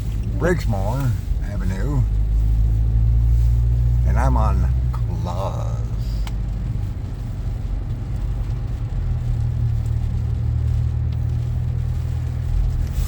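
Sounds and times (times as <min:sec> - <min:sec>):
car interior rumble on wet road: 0:00.0 - 0:13.0.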